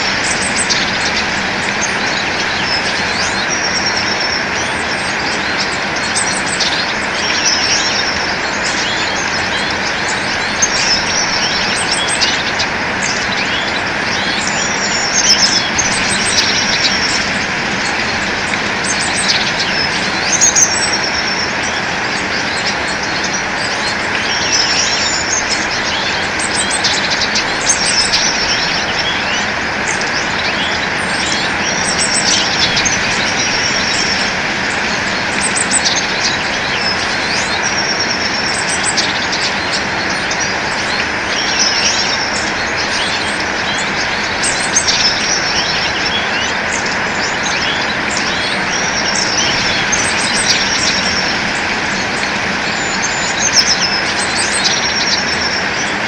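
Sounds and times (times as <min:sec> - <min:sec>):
birds chirping and trilling: 0:00.0 - 0:56.0
rushing background noise: 0:00.0 - 0:56.0.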